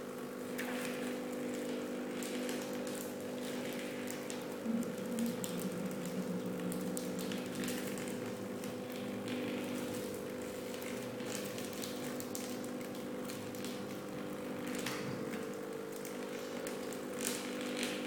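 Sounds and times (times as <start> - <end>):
copier motor hum: 0.0 - 18.0
paper crackling and crinkling: 0.5 - 17.6.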